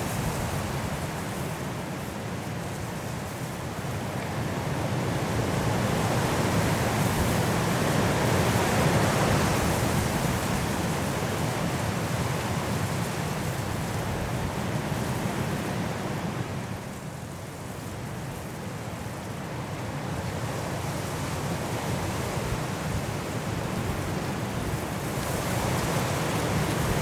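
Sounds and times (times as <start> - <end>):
strong wind blowing through trees: 0.0 - 27.0.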